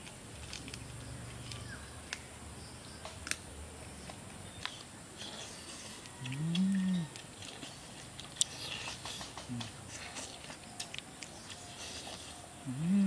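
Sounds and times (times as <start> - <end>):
people chewing food: 0.0 - 2.3, 4.0 - 13.0.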